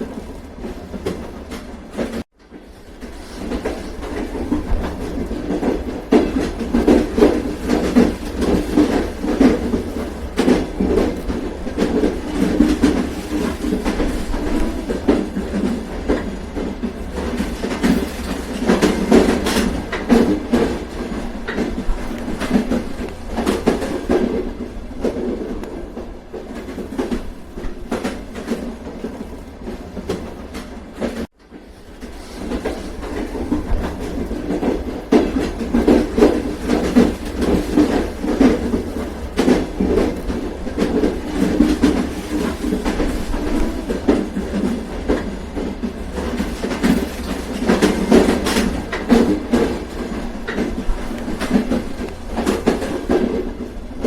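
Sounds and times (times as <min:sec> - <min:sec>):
train rumbling on rails: 0:00.0 - 0:54.0
wheels clacking over rail joints: 0:00.0 - 0:54.0.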